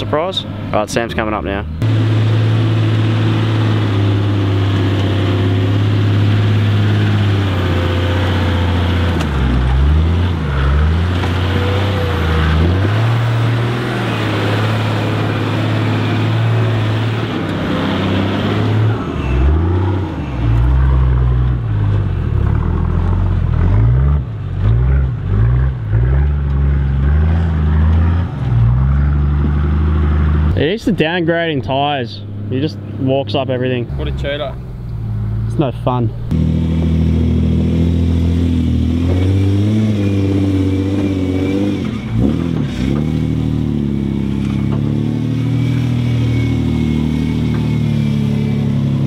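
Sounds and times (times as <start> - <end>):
vehicle engine labouring: 0.0 - 49.0
engine rev blips: 1.5 - 31.6, 32.2 - 49.0.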